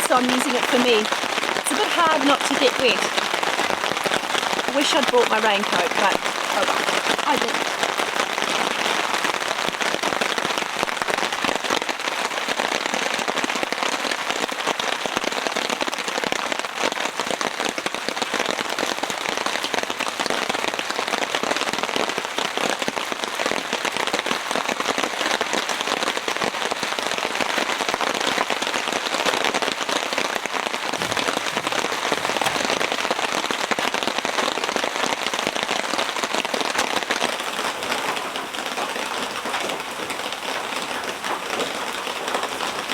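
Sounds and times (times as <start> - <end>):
heavy rain drumming on a tarp: 0.0 - 42.9.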